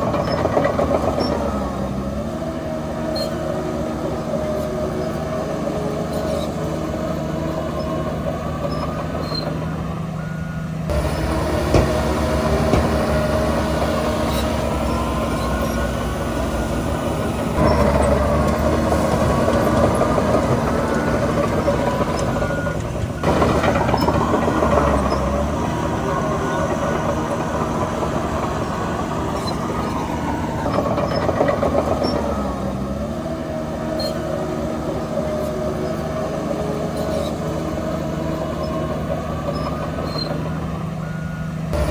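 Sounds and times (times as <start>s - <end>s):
diesel machinery engine running: 0.0s - 41.9s
faint whining glides: 0.0s - 41.9s.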